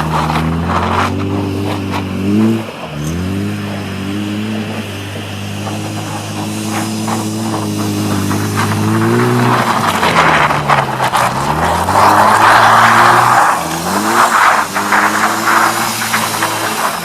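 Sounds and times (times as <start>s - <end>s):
car engine revving: 0.0s - 17.0s
tyres squealing in a slide: 0.0s - 17.0s.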